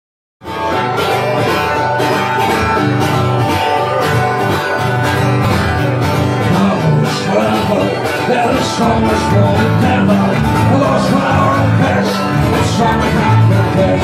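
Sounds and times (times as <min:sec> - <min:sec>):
live folk band playing: 0:00.4 - 0:14.0.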